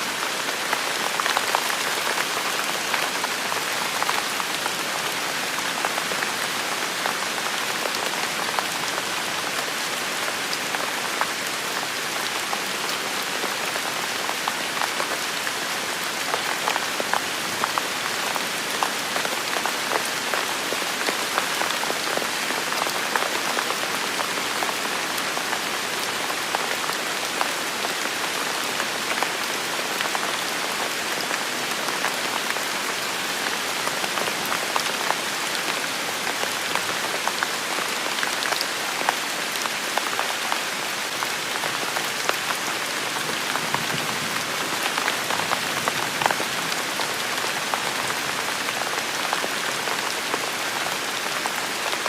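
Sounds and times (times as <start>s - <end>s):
rain on hard surfaces: 0.0s - 52.0s.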